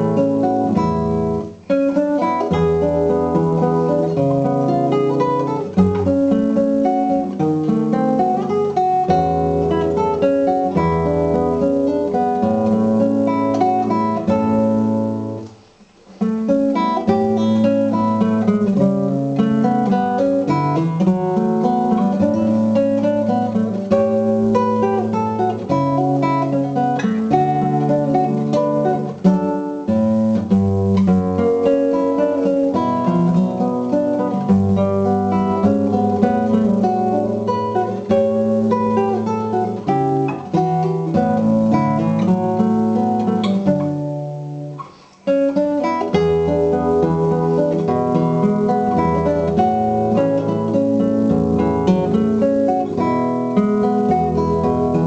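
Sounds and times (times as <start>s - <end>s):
acoustic guitar dance piece: 0.0s - 55.0s.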